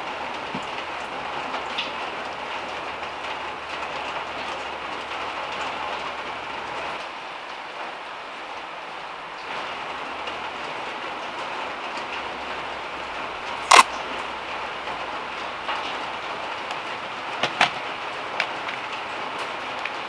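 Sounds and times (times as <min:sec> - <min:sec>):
heavy rain on metal roof: 0:00.0 - 0:20.0.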